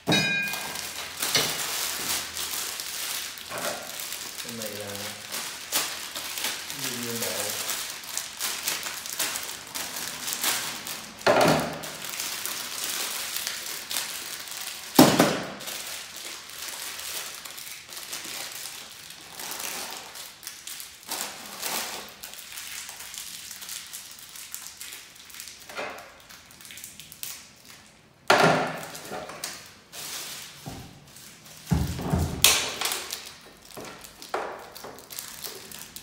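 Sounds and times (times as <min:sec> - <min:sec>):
plastic bag crinkling: 0:00.5 - 0:36.0.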